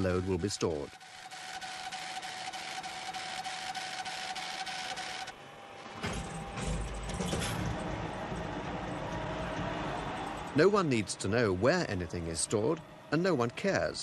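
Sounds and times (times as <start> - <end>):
machinery whine with rapid ticking: 0.0 - 14.0.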